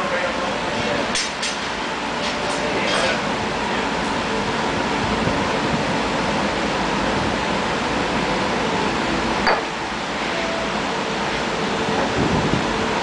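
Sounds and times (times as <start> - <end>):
furnace roaring: 0.0 - 13.0.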